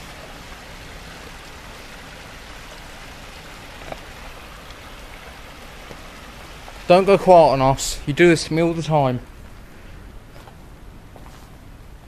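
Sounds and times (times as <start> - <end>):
river water rushing: 0.0 - 10.4.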